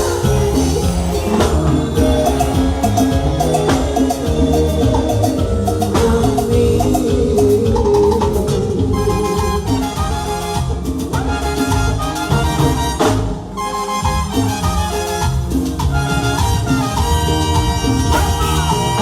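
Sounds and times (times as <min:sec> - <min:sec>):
drums and percussion beat: 0:00.0 - 0:19.0
repeated melodic notes: 0:00.0 - 0:19.0.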